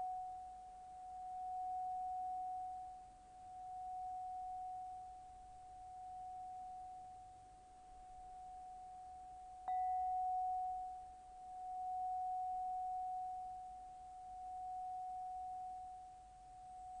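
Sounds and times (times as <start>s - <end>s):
sustained pure bell tone: 0.0s - 17.0s.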